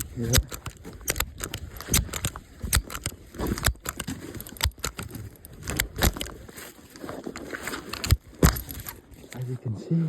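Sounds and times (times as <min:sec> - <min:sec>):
clicking and rustling: 0:00.0 - 0:09.5.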